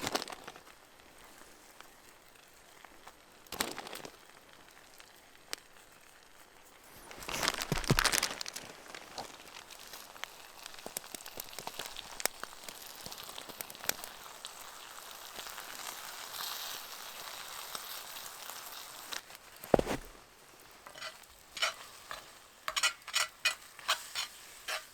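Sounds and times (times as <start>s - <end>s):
food sizzling with crackles: 0.0s - 24.9s.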